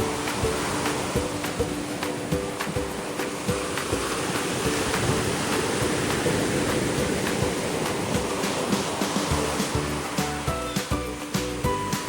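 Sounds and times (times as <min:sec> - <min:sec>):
background music with steady beat: 0:00.0 - 0:12.0
ocean surf rushing: 0:00.0 - 0:12.0.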